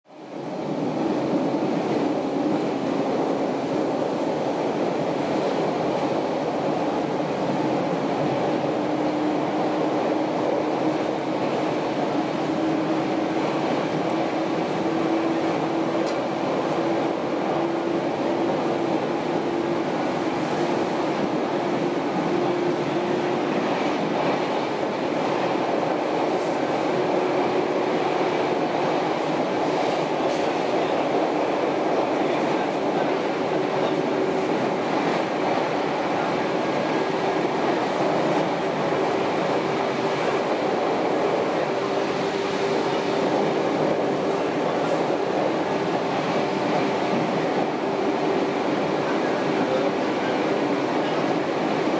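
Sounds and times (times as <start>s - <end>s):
train wheel and rail noise: 0.1s - 51.9s.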